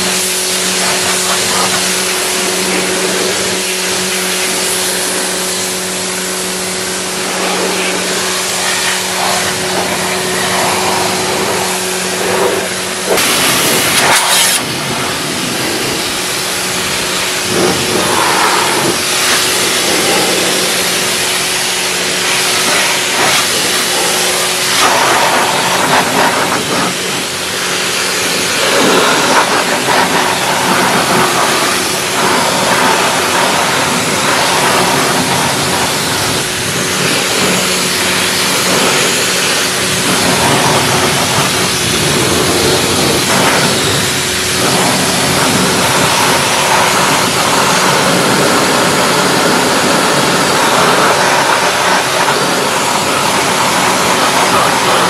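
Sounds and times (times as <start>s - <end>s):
high-pressure water jet hissing: 0.0s - 55.0s
pressure washer pump humming: 0.0s - 55.0s.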